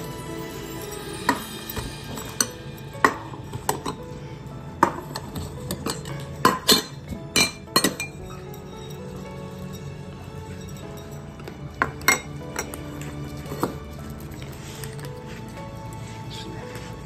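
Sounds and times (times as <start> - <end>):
metal dishes clinking: 0.0 - 15.1
soft background music: 0.0 - 17.0.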